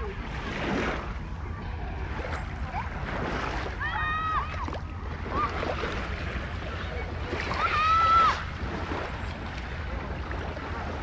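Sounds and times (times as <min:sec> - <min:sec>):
sea waves washing: 0:00.0 - 0:11.0
steady low rumble: 0:00.0 - 0:11.0.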